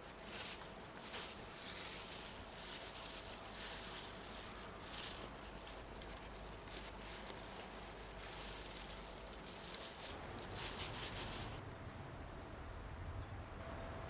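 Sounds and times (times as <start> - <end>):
soft crunching and rustling: 0.0 - 11.6.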